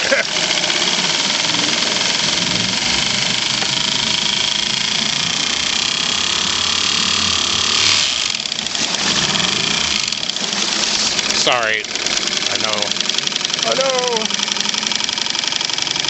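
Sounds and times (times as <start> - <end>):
outboard engine running with knock: 0.0 - 16.0.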